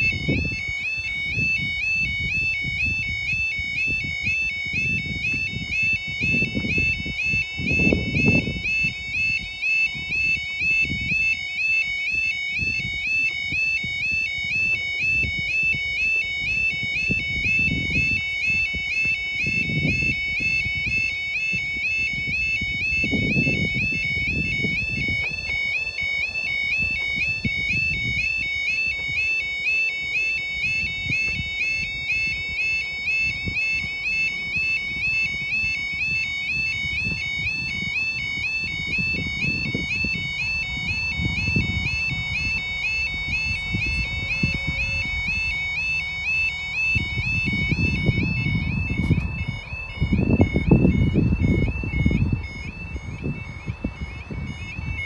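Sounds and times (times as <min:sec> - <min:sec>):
warbling crossing alarm: 0:00.0 - 0:55.0.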